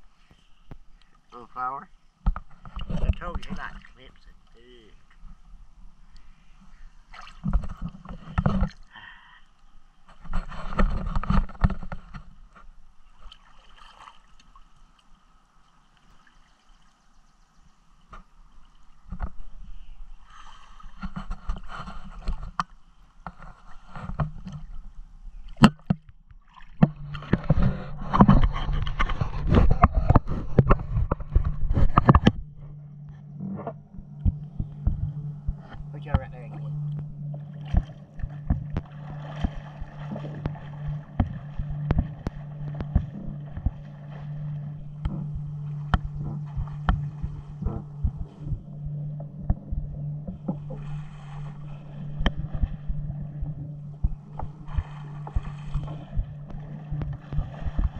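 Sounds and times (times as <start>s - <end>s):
steady low hum: 0.0s - 57.9s
water sloshing and lapping: 0.0s - 57.9s.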